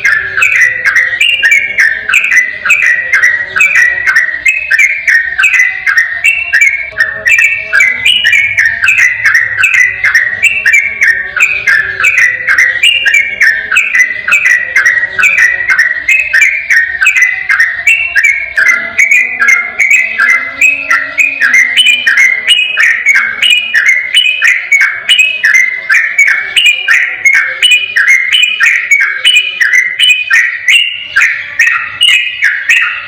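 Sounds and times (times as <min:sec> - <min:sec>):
bulbul singing: 0:00.0 - 0:33.0.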